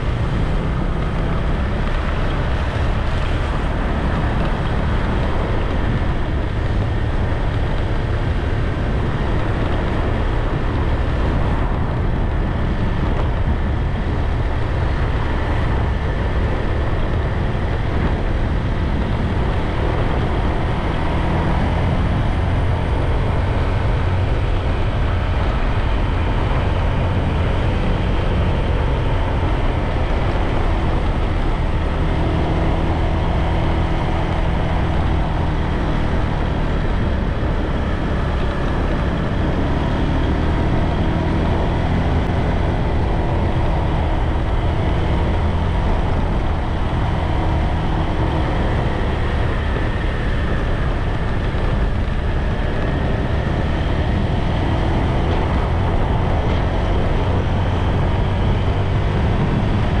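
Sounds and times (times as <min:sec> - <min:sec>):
wind rumble on microphone: 0:00.0 - 1:00.0.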